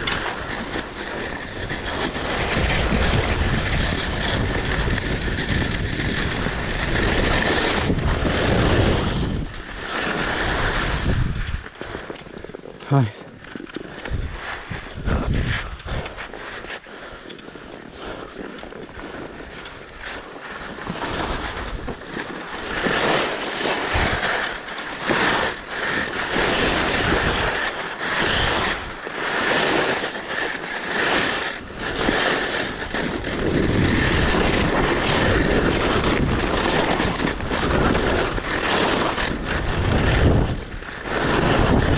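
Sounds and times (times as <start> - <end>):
wind buffeting microphone: 0.0 - 11.8, 13.9 - 16.4, 18.9 - 29.0, 31.0 - 41.9
skis scraping over snow: 0.0 - 41.9.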